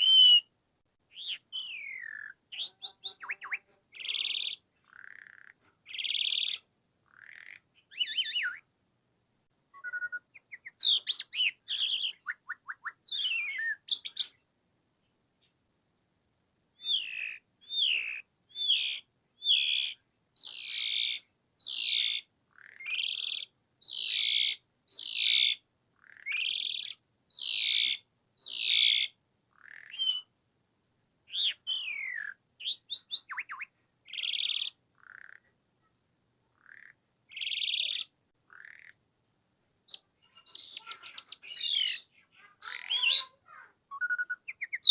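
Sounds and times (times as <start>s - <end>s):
starling singing: 0.0s - 0.5s, 1.1s - 8.6s, 9.8s - 14.4s, 16.8s - 30.3s, 31.3s - 36.0s, 36.6s - 39.0s, 39.9s - 44.9s.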